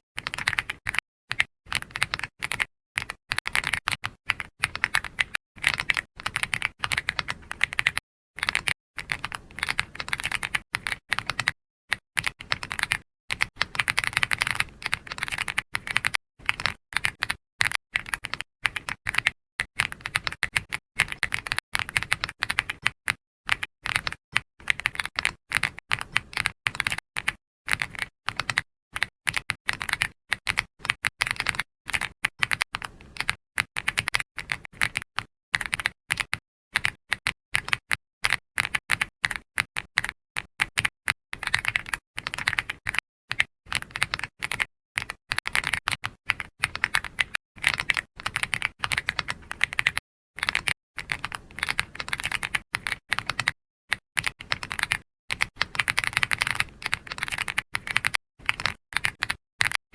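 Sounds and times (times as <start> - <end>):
keyboard typing: 0.2 - 59.8.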